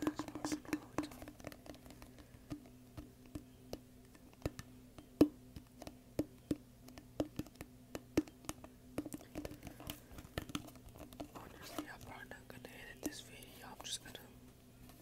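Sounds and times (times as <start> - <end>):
fingertips tapping plastic cup: 0.0 - 14.2.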